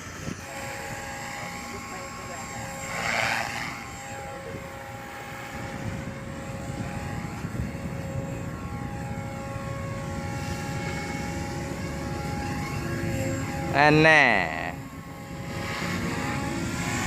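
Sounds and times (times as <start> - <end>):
model aircraft motor whining: 0.0 - 17.0
wind noise on microphone: 0.0 - 17.0.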